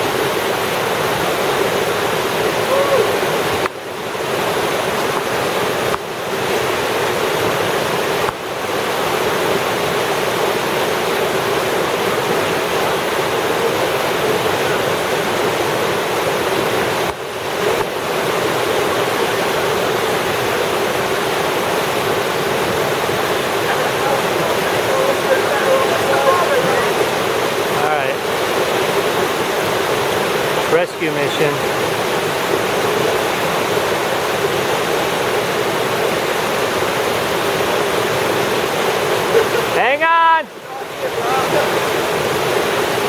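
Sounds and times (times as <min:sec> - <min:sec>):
fast river rushing: 0:00.0 - 0:43.0.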